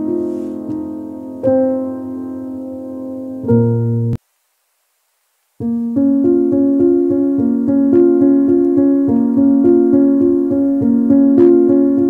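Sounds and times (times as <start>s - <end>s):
keyboard music: 0.0s - 4.2s, 5.6s - 12.0s.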